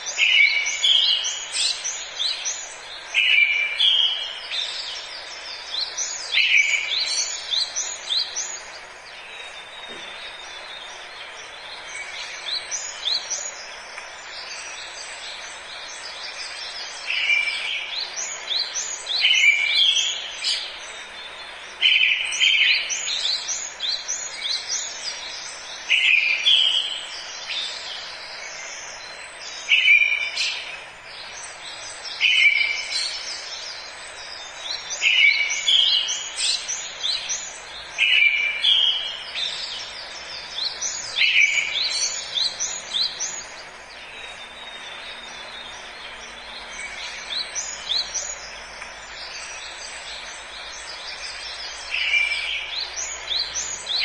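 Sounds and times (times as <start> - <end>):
background hiss: 0.0 - 54.0
songbird singing: 0.0 - 54.0.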